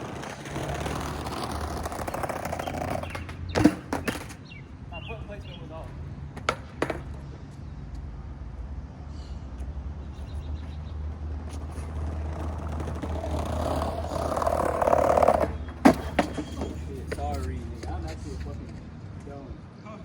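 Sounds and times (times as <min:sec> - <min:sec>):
skateboard wheels rolling on pavement: 0:00.0 - 0:19.7.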